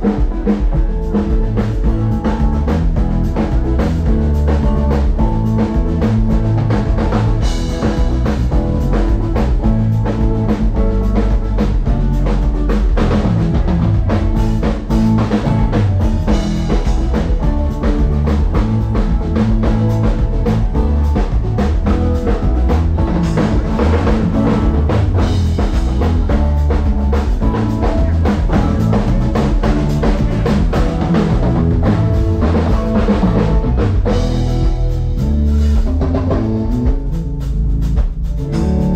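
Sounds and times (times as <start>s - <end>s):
band playing amplified music: 0.0s - 38.9s
drum kit beat: 0.0s - 38.9s.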